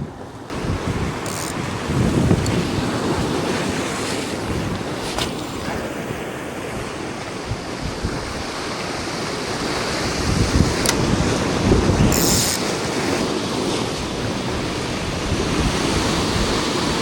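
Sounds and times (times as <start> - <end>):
sea surf on rocky shore: 0.0 - 17.0
wind buffeting microphone: 0.0 - 17.0.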